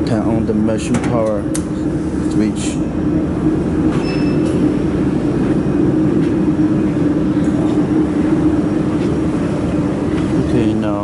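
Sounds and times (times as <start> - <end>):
loud machine hum: 0.0 - 11.0
machine whirring: 0.0 - 11.0.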